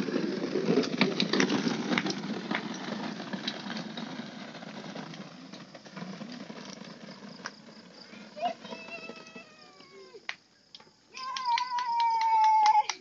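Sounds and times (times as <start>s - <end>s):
plastic toy wheels rattling on concrete: 0.0s - 13.0s.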